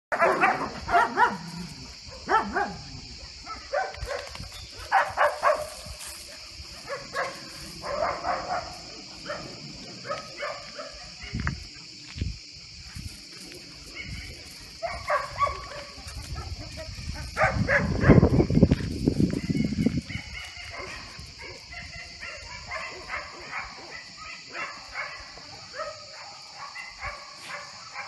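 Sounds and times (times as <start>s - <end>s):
young dogs yipping and barking: 0.1s - 11.5s, 13.5s - 28.0s.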